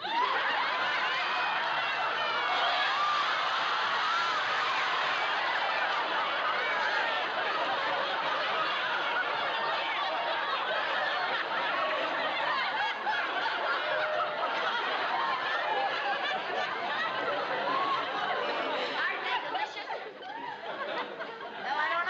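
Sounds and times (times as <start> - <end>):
studio audience laughing: 0.0 - 22.0.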